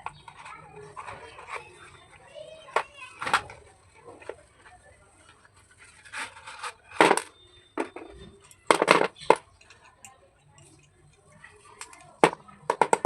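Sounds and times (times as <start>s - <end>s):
pencils scratching and rustling: 0.0s - 13.0s.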